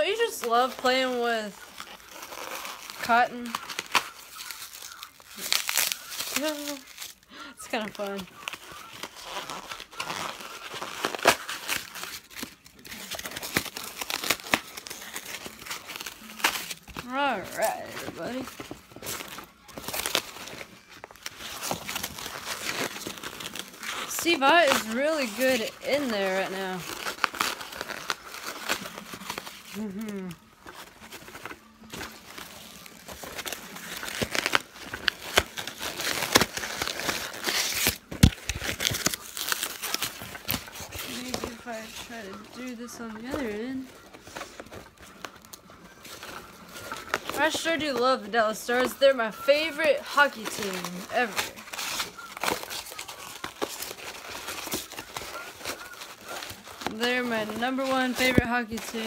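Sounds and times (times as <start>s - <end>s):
packing material rustling: 0.0s - 59.0s.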